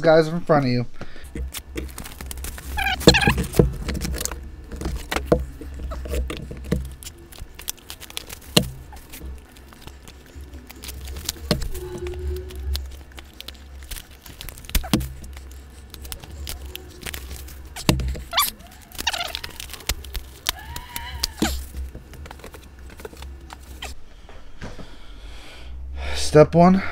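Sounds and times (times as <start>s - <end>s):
steady low hum: 0.0s - 26.9s
cardboard boxes tapping and clicking: 1.3s - 23.9s.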